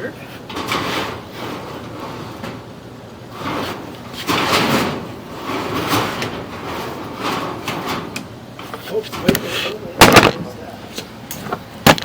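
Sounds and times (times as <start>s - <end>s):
cable scraping against sheet metal: 0.3s - 10.5s.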